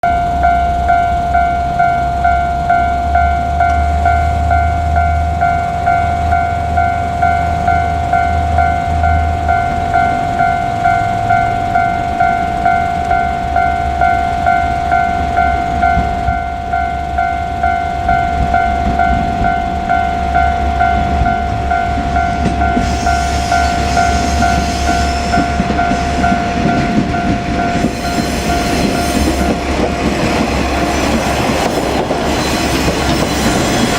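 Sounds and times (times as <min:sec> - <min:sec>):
level crossing bell ringing: 0:00.0 - 0:29.7
diesel railcar rumble: 0:00.0 - 0:33.9
wheels rattling on rail: 0:00.1 - 0:33.9.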